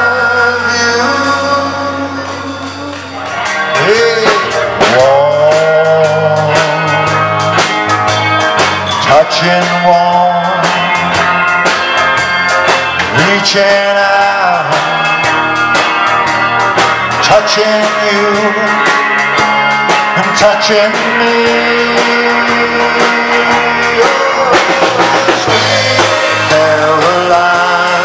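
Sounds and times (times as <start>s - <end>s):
man singing: 0.0s - 11.8s, 13.0s - 15.5s, 17.1s - 28.0s
rock band playing: 0.0s - 28.0s.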